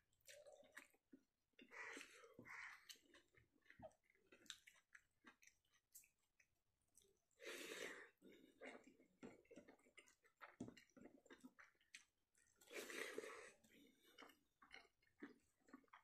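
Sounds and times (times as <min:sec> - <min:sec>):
person chewing: 0:00.2 - 0:16.0.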